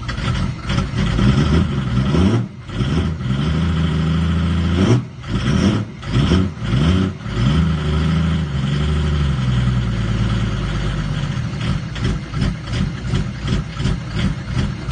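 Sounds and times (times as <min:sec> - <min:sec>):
engine revving and idling: 0:00.0 - 0:14.9.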